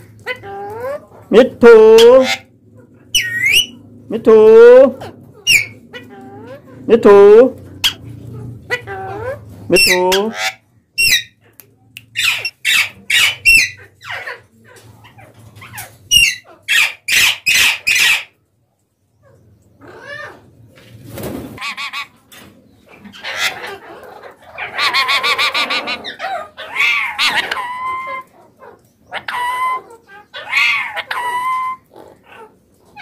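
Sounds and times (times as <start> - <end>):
parakeets screeching: 0.0 - 11.4, 12.2 - 18.4, 21.6 - 22.2, 22.9 - 33.0
parrot chatter and calls: 0.0 - 20.6, 21.5 - 33.0.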